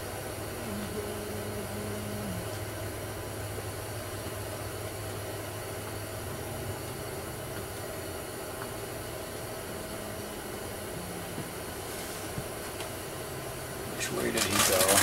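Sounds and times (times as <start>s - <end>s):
constant hiss: 0.0s - 15.0s
low mechanical hum: 0.0s - 15.0s.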